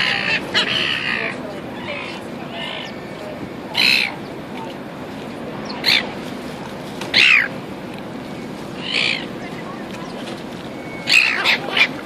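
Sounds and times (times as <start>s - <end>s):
seagulls calling: 0.0s - 4.9s, 5.5s - 12.0s.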